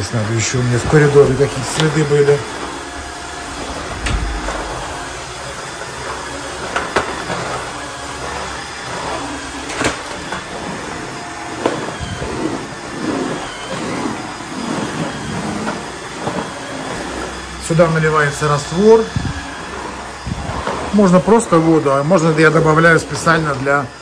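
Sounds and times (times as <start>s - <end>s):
vacuum floor washer running: 0.0s - 24.0s.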